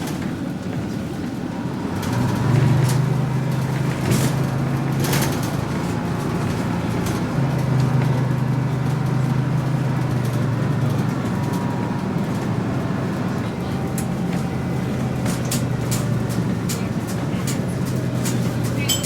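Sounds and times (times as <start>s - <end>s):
bus engine droning: 0.0s - 19.0s
road noise rumble: 0.0s - 19.0s.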